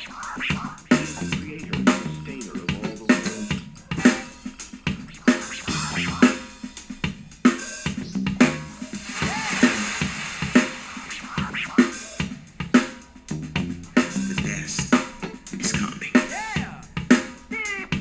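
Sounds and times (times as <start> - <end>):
drum-heavy music: 0.0 - 18.0.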